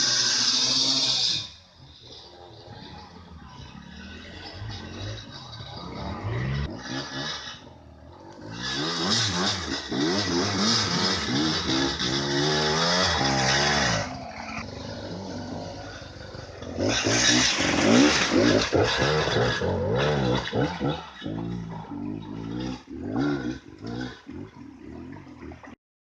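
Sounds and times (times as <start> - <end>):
motorcycle engine revving hard: 0.0 - 24.6.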